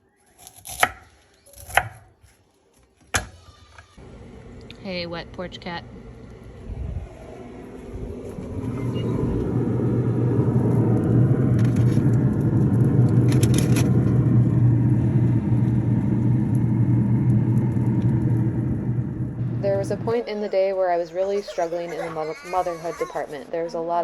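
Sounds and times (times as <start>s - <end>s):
vehicle engine rumbling: 3.5s - 23.6s.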